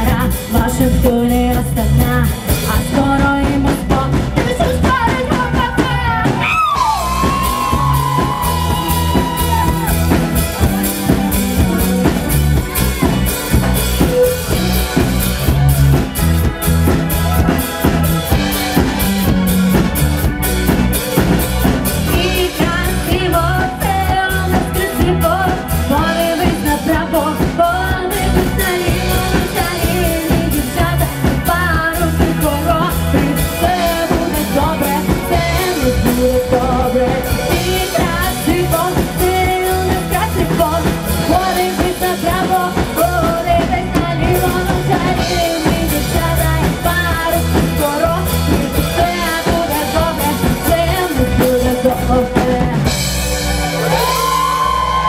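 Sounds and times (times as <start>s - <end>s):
person singing: 0.0s - 19.5s, 21.0s - 55.0s
drum kit beat: 0.0s - 55.0s
live rock band playing: 0.0s - 55.0s.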